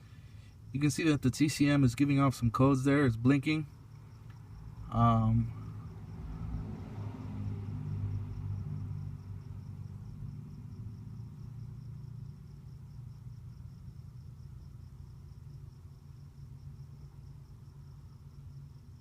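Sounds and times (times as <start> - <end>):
crickets chirping: 0.0 - 19.0
low steady rumble: 0.0 - 19.0.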